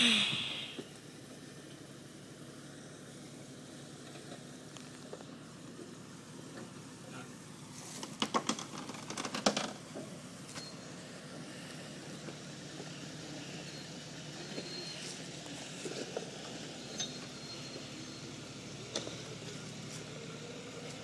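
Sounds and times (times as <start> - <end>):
engine running low: 0.0 - 21.0.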